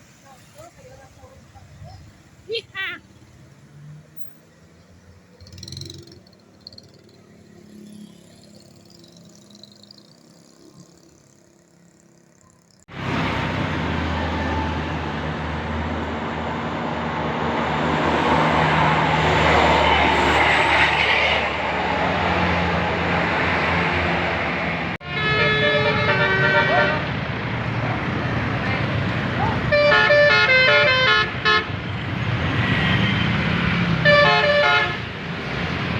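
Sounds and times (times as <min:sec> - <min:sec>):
heavy road vehicle passing: 0:00.0 - 0:35.9.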